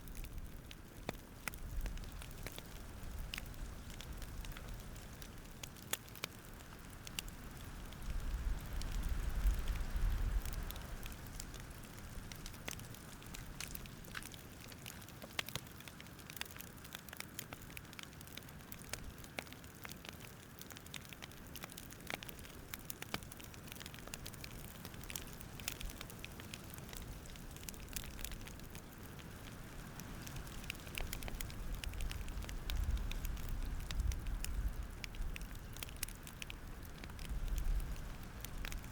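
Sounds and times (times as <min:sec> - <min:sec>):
campfire crackling: 0:00.0 - 0:38.9
fire pops and snaps: 0:00.0 - 0:38.9.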